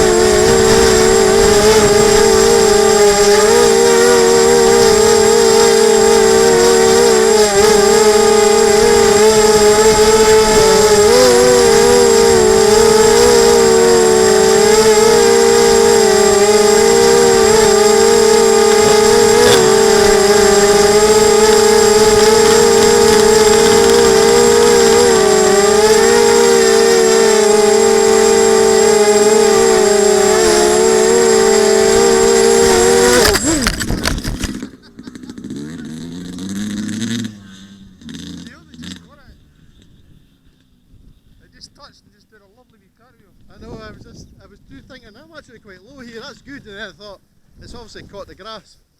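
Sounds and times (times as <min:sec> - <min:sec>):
quadcopter motors whining: 0:00.0 - 0:41.8.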